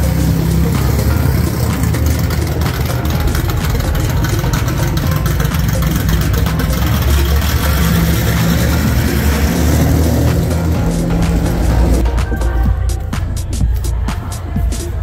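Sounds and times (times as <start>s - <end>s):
car engine idling: 0.0s - 15.0s
music with heavy bass: 0.0s - 15.0s.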